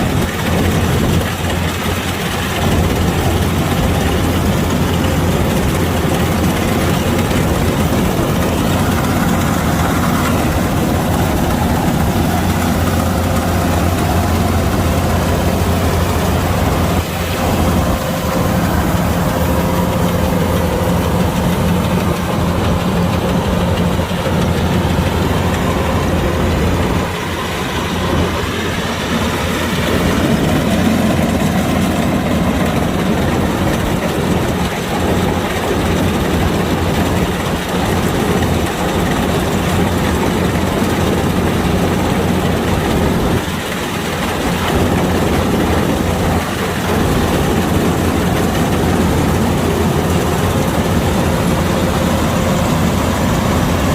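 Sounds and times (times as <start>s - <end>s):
combine harvester engine droning: 0.0s - 53.9s.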